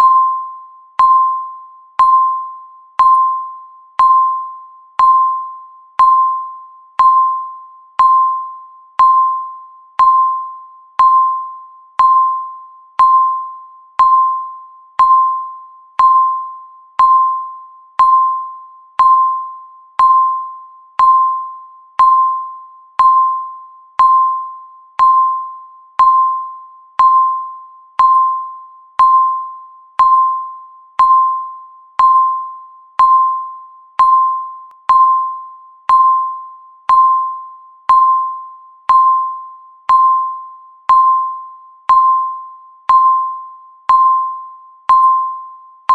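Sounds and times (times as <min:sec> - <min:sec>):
electronic timer beeps: 0:00.0 - 0:45.9.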